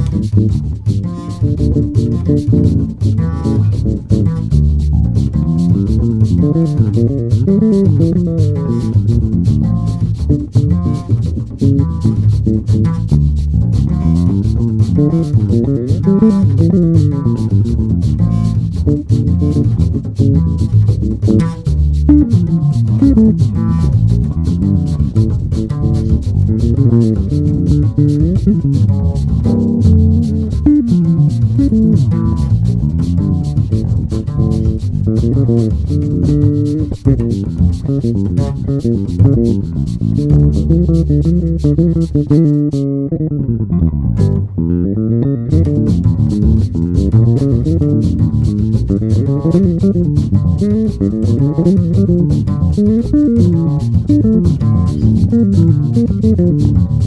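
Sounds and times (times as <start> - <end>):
electric bass played fingerstyle: 0.0 - 57.0.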